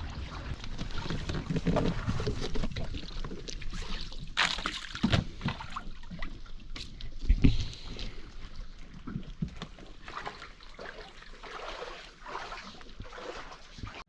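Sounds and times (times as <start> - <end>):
water sloshing around a boat: 0.0 - 14.0.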